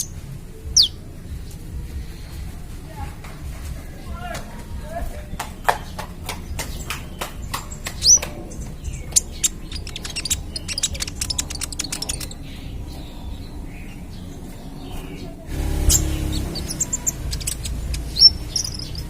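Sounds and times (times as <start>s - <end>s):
bird singing sharp high chips: 0.0s - 2.3s, 5.5s - 19.0s.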